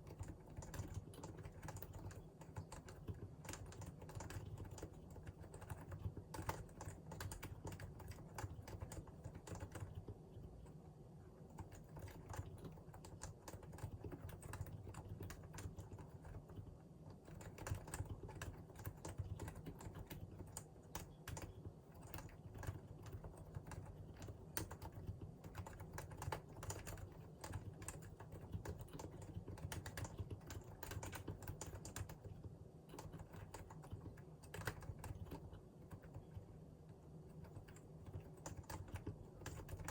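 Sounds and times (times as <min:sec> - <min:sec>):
keyboard typing: 0:00.0 - 0:10.8, 0:11.5 - 0:36.5, 0:37.3 - 0:39.9.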